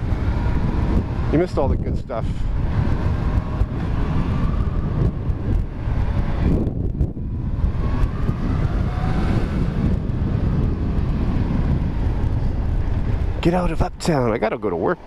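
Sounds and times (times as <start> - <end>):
wind rush on microphone: 0.0 - 15.0.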